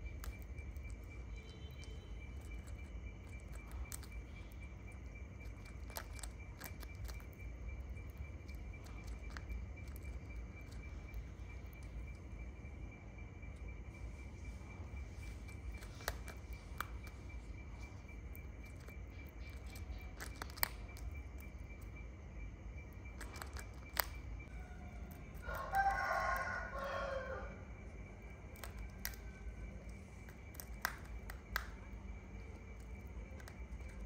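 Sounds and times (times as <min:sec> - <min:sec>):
steady high whine: 0:00.0 - 0:34.0.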